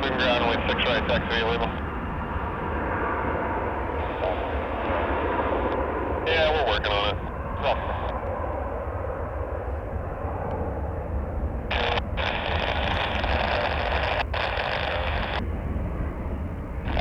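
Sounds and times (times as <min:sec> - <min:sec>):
jet engine noise: 0:00.0 - 0:17.0
wind rumble on microphone: 0:00.0 - 0:17.0.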